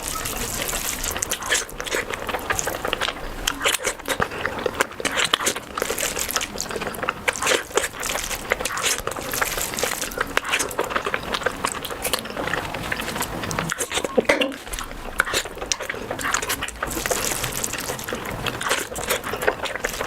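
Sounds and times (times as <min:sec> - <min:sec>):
crunchy bites: 0:00.0 - 0:20.0
wet chewing and mouth smacking: 0:00.0 - 0:20.0.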